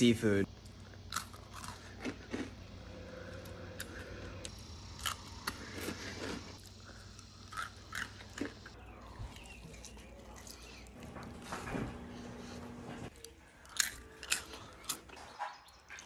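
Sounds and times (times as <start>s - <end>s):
crunchy snacks being chewed: 0.6s - 11.1s, 13.1s - 16.0s.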